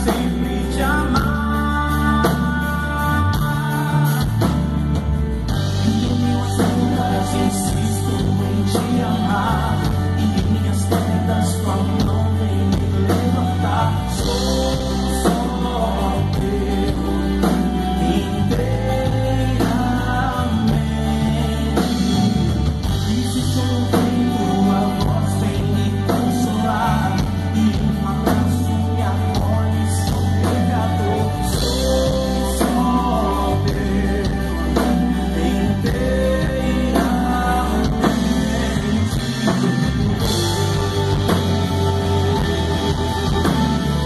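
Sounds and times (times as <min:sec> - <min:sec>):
band with drums and bass: 0:00.0 - 0:44.0
person singing: 0:00.0 - 0:44.0.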